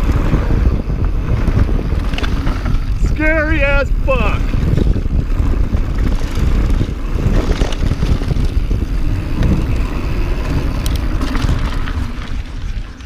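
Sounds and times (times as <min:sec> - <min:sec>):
bike tyres rumbling over dirt: 0:00.0 - 0:13.0
wind buffeting microphone: 0:00.0 - 0:13.0.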